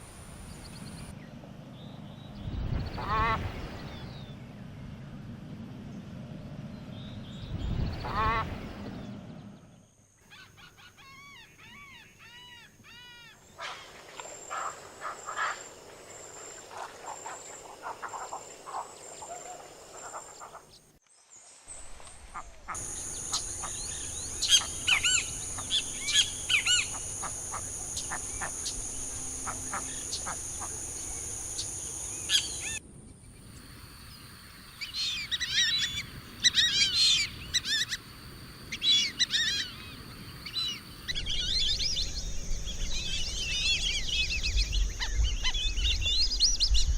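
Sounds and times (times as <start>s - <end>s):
birds calling and singing: 0.2s - 20.9s, 21.8s - 32.8s, 34.6s - 46.9s.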